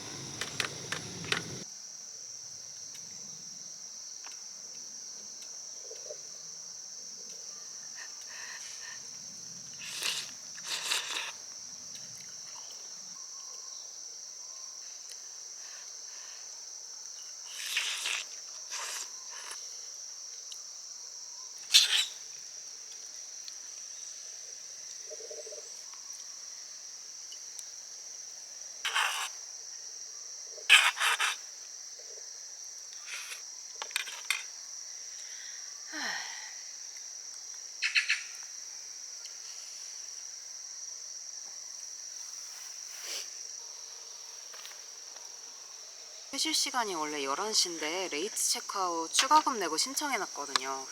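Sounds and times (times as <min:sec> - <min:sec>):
crickets chirring: 0:00.0 - 0:50.9.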